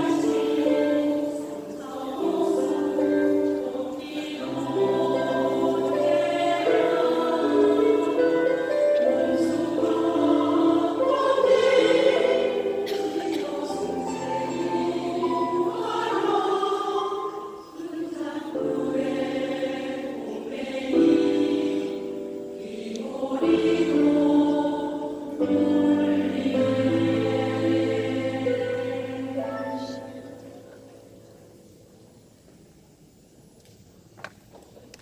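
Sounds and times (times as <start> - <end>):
choir singing in harmony: 0.0 - 31.9.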